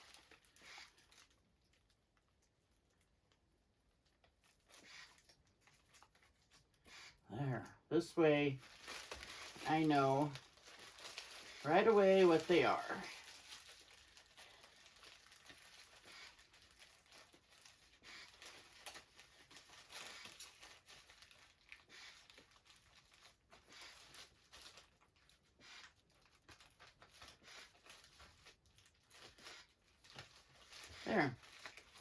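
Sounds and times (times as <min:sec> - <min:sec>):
bag of potatoes rustling: 0:00.0 - 0:03.4, 0:04.0 - 0:32.0.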